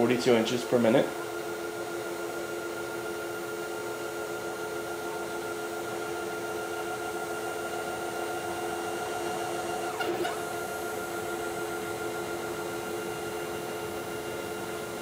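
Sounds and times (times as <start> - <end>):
stepper motor whine: 0.8 - 15.0.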